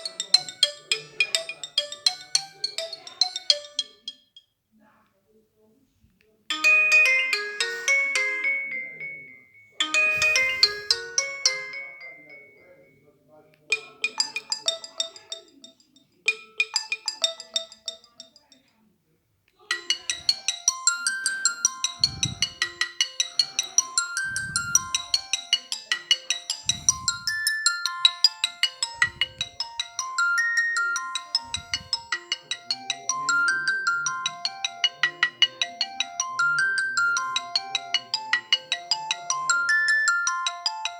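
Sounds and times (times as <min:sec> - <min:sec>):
phone ringtone melody: 0:00.0 - 0:04.2, 0:06.5 - 0:13.0, 0:13.7 - 0:18.4, 0:19.7 - 0:40.9.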